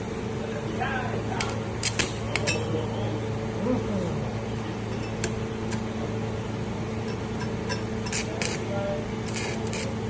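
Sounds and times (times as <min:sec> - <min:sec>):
welding machine electrical hum: 0:00.0 - 0:10.0.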